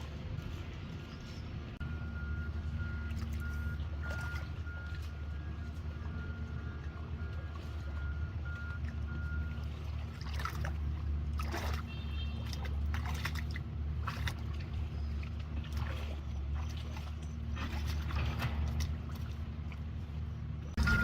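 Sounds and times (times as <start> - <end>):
water splashing: 0.0 - 21.0.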